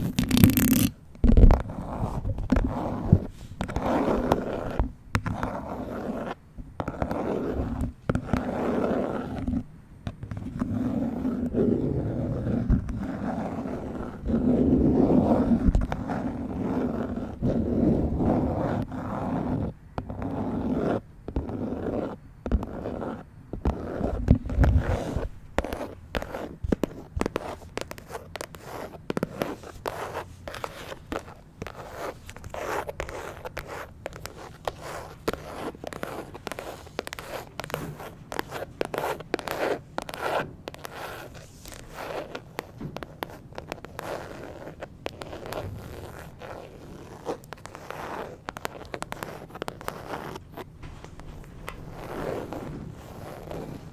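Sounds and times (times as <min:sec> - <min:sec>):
fingernails scratching phone case: 0:00.0 - 0:53.9.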